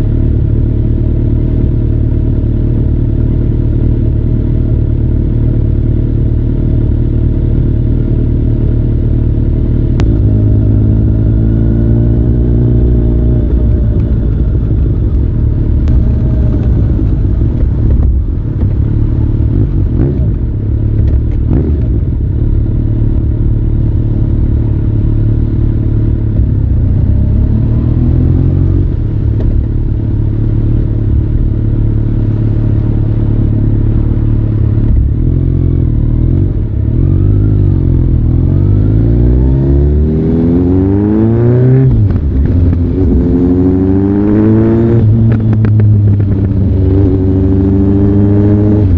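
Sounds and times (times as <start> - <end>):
motorcycle engine deep exhaust: 0.0 - 48.9.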